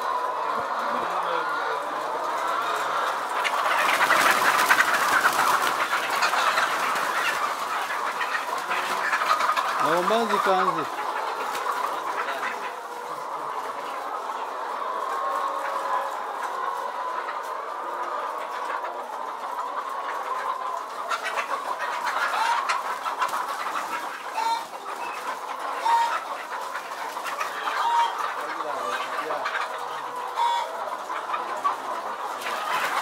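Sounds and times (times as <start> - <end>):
hens clucking and calling: 0.0 - 33.0.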